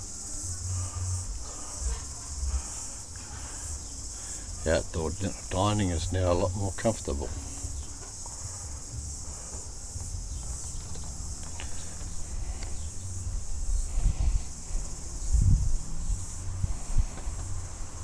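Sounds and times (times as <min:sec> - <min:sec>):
insect chorus pulsing: 0:00.0 - 0:18.0.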